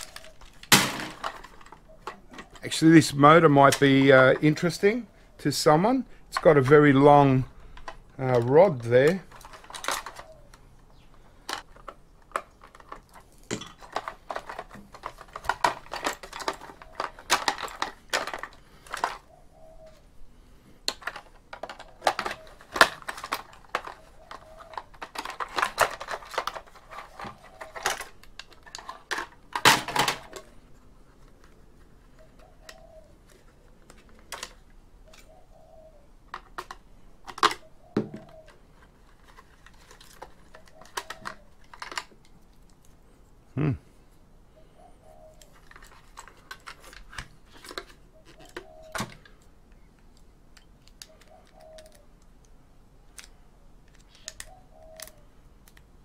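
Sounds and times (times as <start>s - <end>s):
plastic parts clicking and snapping: 0.0s - 4.7s, 7.6s - 19.4s, 20.8s - 35.4s, 36.2s - 43.0s, 45.3s - 56.0s.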